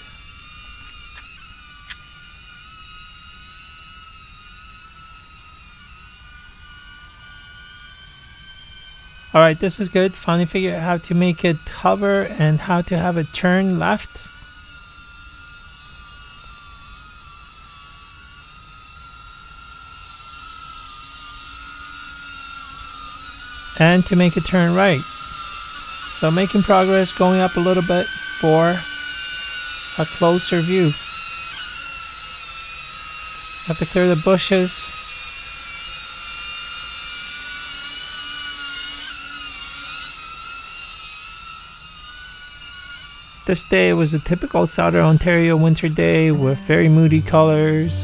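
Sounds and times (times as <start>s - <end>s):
drone propellers whining: 0.0s - 48.0s.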